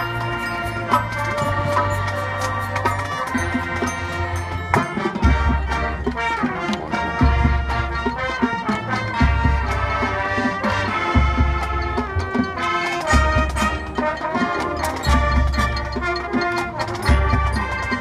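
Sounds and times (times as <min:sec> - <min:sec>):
brass chords: 0:00.0 - 0:18.0
drum and percussion hits: 0:00.0 - 0:18.0.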